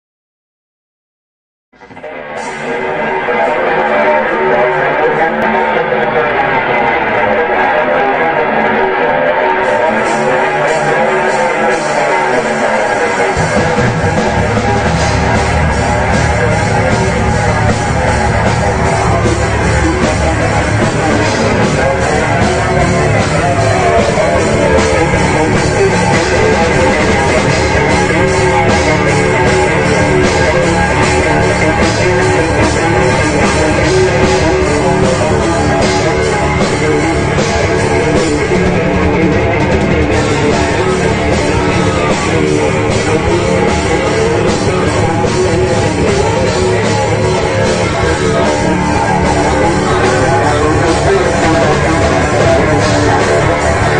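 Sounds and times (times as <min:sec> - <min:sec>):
drum kit: 0:01.8 - 0:53.9
electric guitar: 0:01.8 - 0:53.9.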